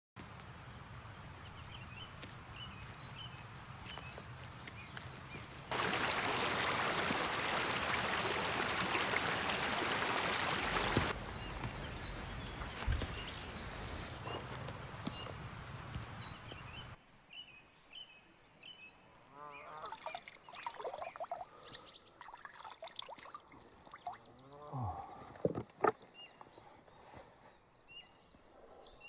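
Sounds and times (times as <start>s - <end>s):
small birds chirping: 0.2s - 17.0s, 20.1s - 29.0s.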